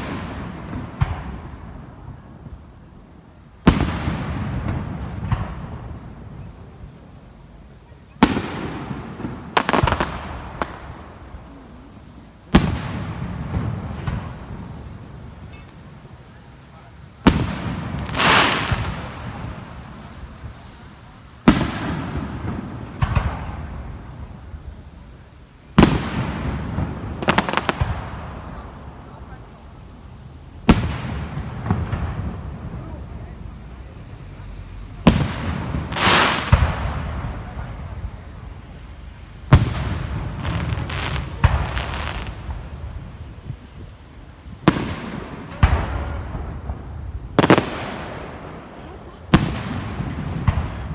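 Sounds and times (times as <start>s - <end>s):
firework booms: 0.0s - 50.9s
firework crackling: 0.0s - 50.9s
low rolling rumble: 8.7s - 50.9s.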